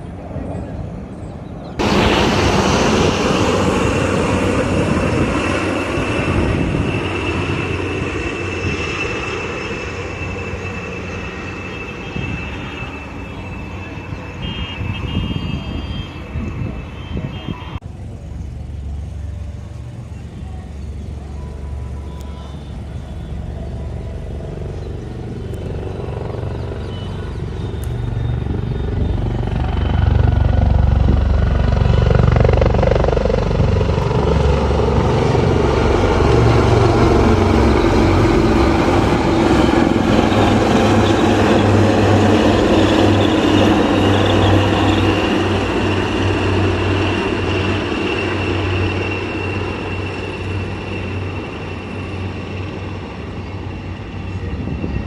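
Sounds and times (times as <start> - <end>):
aircraft engine roar: 0.0 - 55.0.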